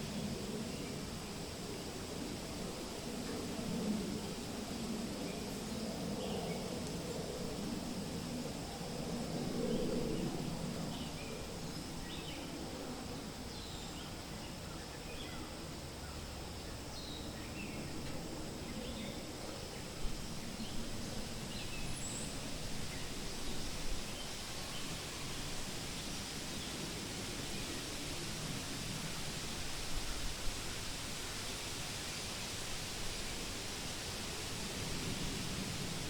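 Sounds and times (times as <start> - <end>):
wind rustling leaves: 0.0 - 36.0.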